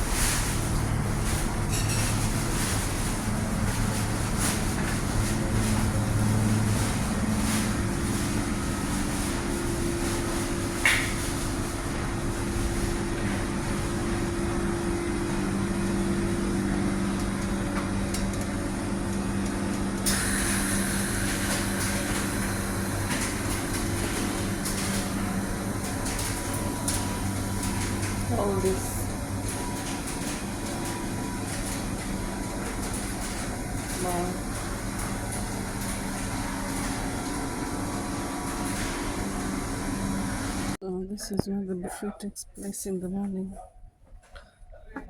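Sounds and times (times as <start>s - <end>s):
ventilation and machinery hum: 0.0s - 45.0s.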